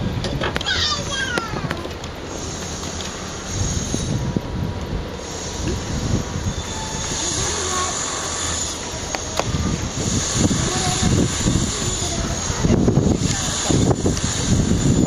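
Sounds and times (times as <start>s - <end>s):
freight train roaring past: 0.0s - 15.0s
wind buffeting microphone: 0.0s - 15.0s.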